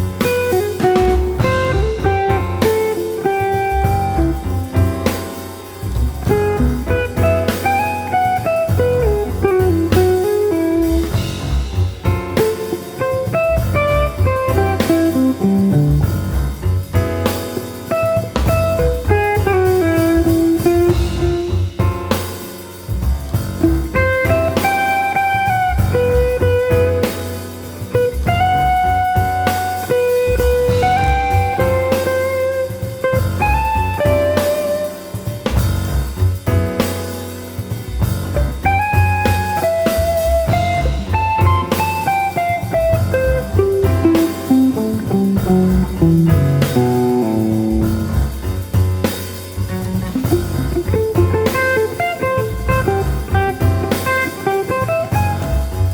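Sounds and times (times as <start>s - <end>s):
bass line: 0.0s - 55.9s
drum kit: 0.0s - 55.9s
jazz lead melody: 0.0s - 55.9s.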